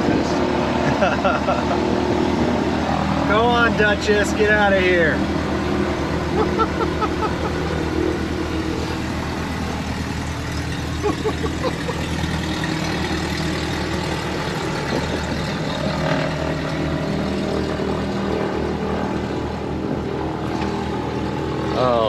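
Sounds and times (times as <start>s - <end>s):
propeller plane engines droning: 0.0s - 22.0s.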